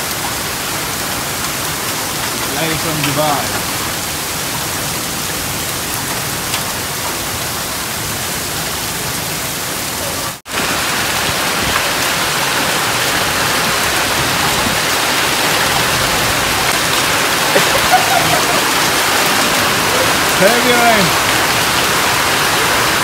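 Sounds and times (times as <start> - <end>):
heavy rain and hail on paving: 0.0 - 23.0.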